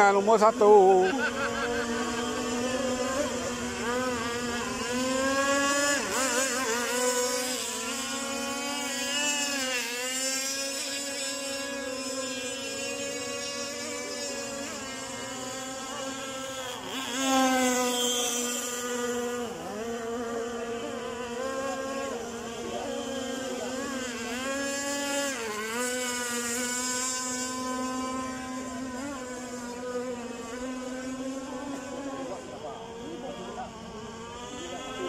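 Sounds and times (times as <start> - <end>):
electric boat motor whining: 0.0 - 35.0.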